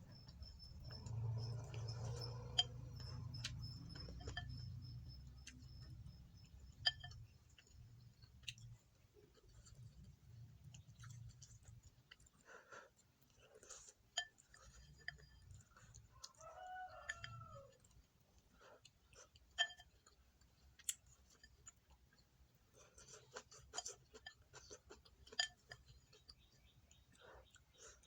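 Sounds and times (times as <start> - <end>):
chewing: 0.0 - 28.0.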